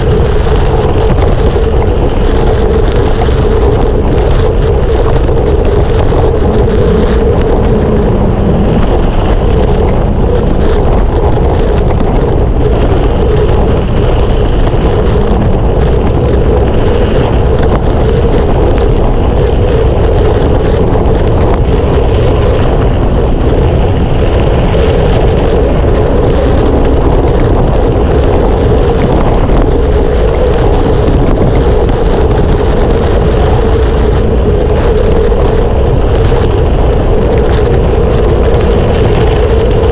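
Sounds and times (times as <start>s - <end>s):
bike tyres rumbling on trail: 0.0s - 39.9s
wind on microphone: 0.0s - 39.9s.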